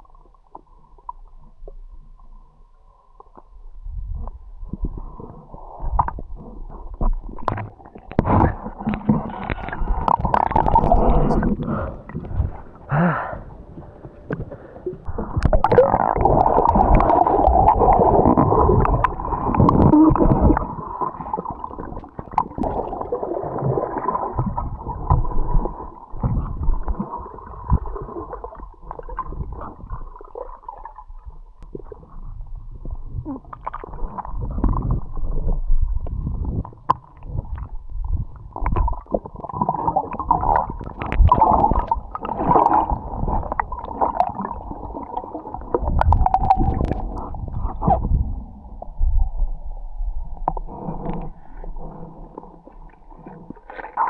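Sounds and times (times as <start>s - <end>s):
muffled underwater gurgling bubbles: 0.0s - 54.0s.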